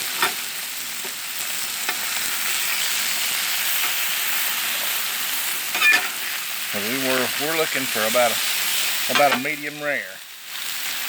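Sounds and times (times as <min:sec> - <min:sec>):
steaks sizzling on a griddle: 0:00.0 - 0:11.0.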